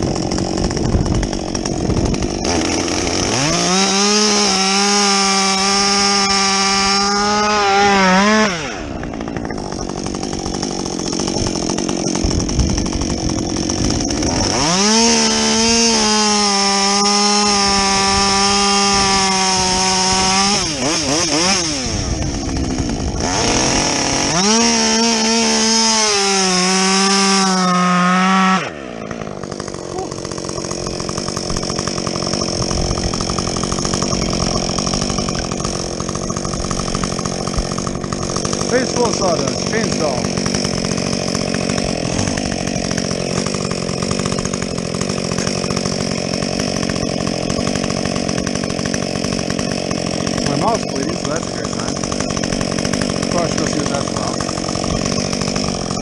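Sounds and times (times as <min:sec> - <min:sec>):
chainsaw cutting at full throttle: 0:00.0 - 0:56.0.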